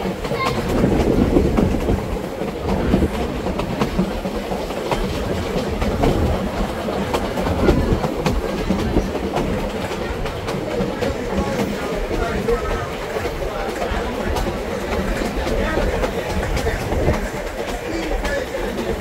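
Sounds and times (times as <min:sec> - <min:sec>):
train rumbling on track: 0:00.0 - 0:19.0
wheels clicking over rail joints: 0:00.0 - 0:19.0.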